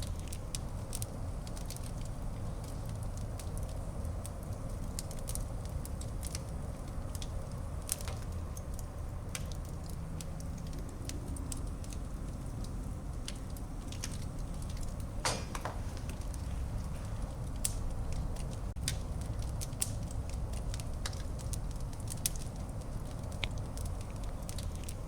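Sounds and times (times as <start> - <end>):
fire crackles and pops: 0.0 - 25.0
fire flames roaring low: 0.0 - 25.0.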